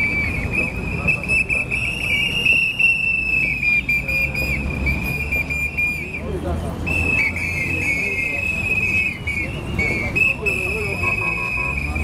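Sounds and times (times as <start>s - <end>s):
whistle blown: 0.0s - 12.0s.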